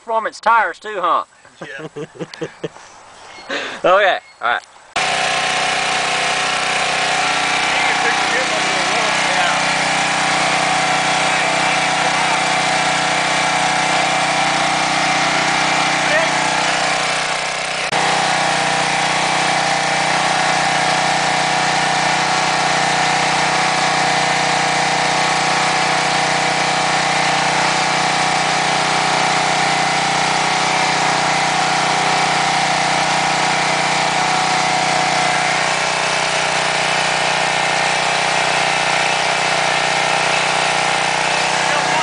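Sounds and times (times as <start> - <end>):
generator engine running: 5.0 - 42.0.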